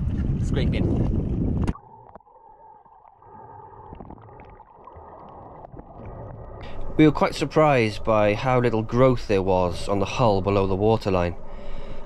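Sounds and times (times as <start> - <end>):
wind and water noise: 0.0 - 12.0.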